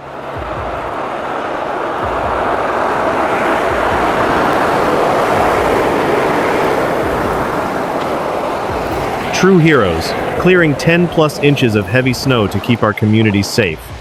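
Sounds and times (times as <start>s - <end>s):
heavy vehicle rushing noise: 0.0s - 13.5s.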